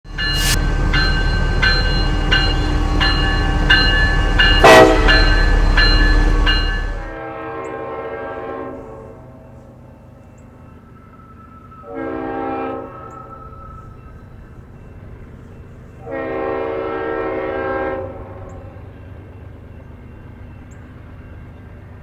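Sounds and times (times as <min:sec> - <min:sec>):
freight train rumble: 0:00.0 - 0:22.0
distant train horn: 0:00.1 - 0:20.5
crossing bell ringing: 0:00.1 - 0:22.0.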